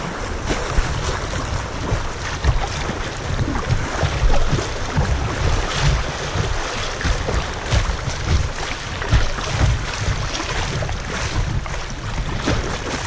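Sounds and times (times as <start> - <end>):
creek water rushing and splashing: 0.0 - 13.0
wind rumbling on microphone: 0.0 - 13.0.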